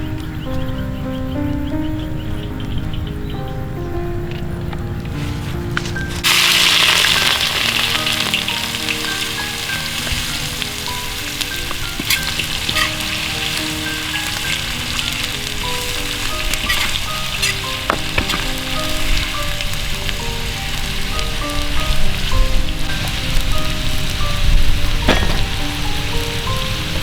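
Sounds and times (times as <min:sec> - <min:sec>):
background music: 0:00.0 - 0:27.0
food sizzling in hot oil: 0:05.2 - 0:27.0.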